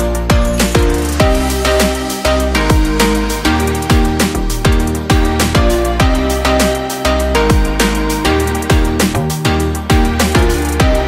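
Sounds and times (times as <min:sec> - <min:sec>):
electronic music with pitch-falling beat: 0:00.0 - 0:11.0.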